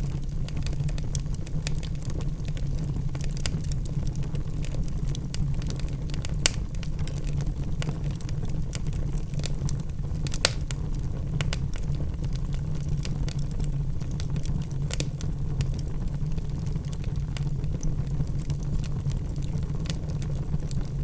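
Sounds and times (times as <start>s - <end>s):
logs crackling and popping: 0.0s - 21.0s
low fire rumble: 0.0s - 21.0s.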